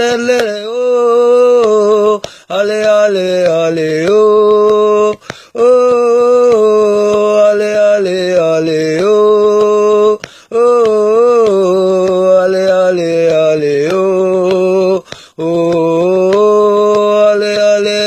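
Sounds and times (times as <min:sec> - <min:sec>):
men chanting wordless refrain: 0:00.0 - 0:18.0.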